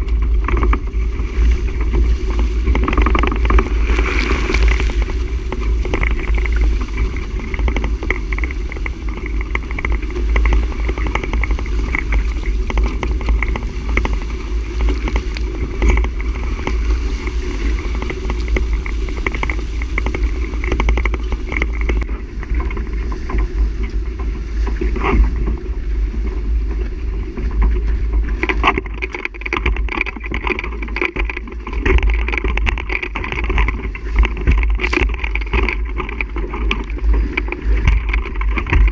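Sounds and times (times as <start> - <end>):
rushing noise with low rumble: 0.0 - 38.9.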